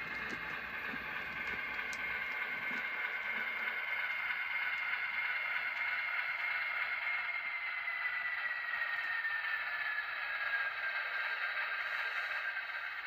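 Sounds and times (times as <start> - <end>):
model train motor whine: 0.0 - 13.0
wheels ticking on track: 0.0 - 13.0.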